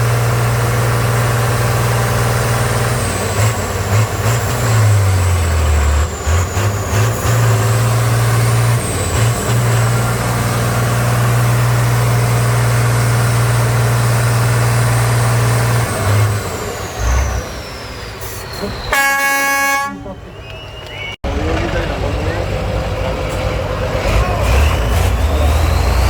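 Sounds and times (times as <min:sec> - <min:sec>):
truck engine under load: 0:00.0 - 0:26.0.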